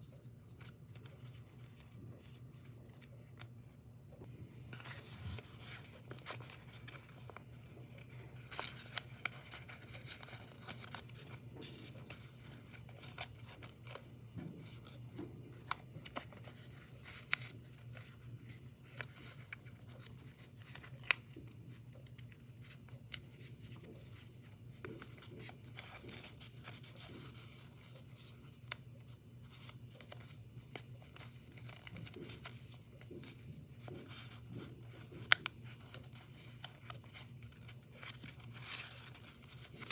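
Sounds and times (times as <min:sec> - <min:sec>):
paper rustling and crinkling: 0:00.0 - 0:03.6, 0:04.5 - 0:39.9.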